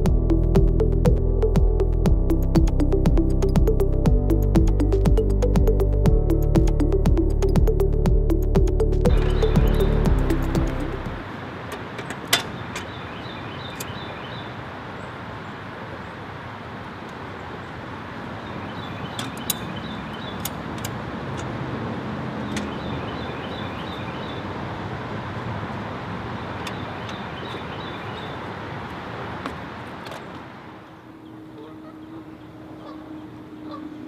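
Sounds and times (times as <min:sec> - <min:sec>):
distant road traffic: 0:00.0 - 0:34.0.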